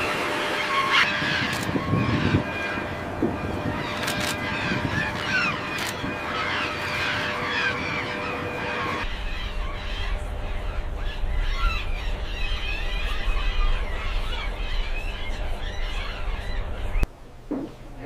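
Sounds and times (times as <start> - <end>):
gulls calling: 0.0 - 17.1
steady low rumble: 0.0 - 18.0.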